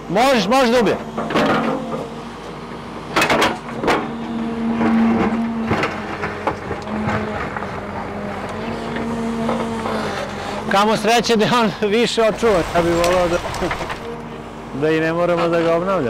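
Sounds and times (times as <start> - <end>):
excavator engine humming: 0.0 - 16.0.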